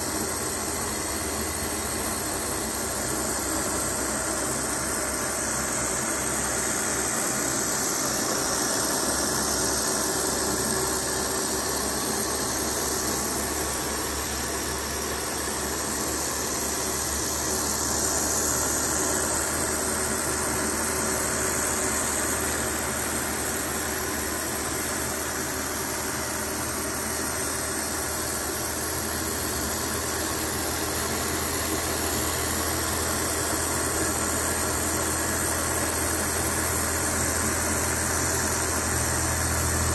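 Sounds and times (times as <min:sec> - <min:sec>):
high hiss: 0:00.0 - 0:39.9.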